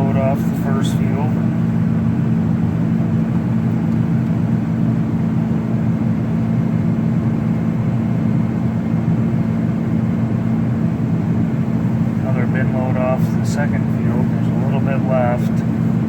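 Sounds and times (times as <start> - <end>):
combine harvester engine drone: 0.0 - 16.0.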